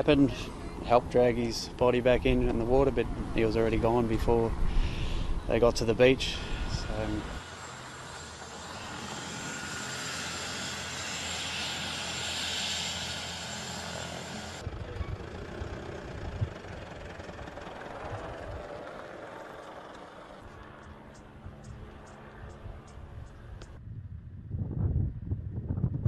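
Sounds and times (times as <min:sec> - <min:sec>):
engine drone: 0:00.0 - 0:23.8
buffeting outdoor noise: 0:00.0 - 0:26.0.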